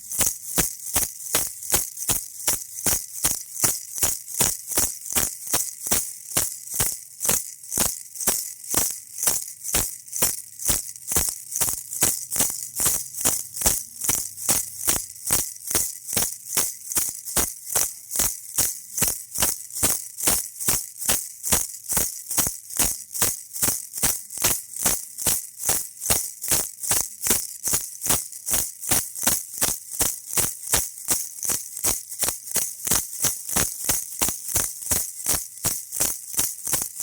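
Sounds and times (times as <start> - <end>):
baby toy rattle shaken: 0.0 - 37.0.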